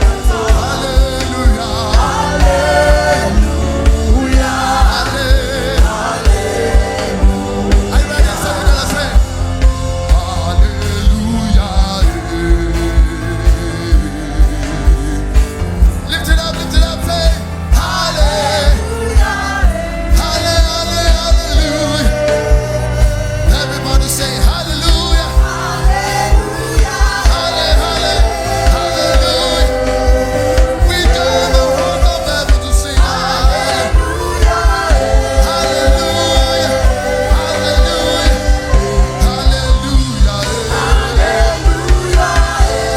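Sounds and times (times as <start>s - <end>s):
people singing gospel with band: 0.0s - 42.9s.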